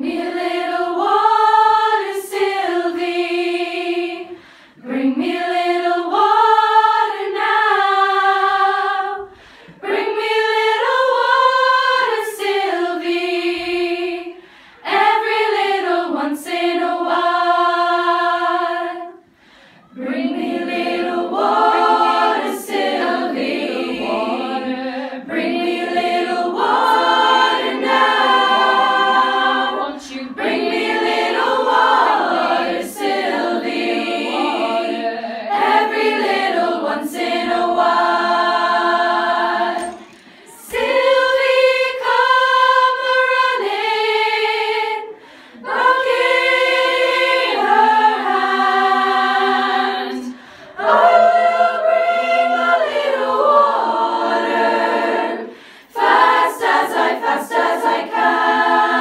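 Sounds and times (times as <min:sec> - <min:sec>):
girls choir singing a cappella: 0:00.0 - 0:59.0.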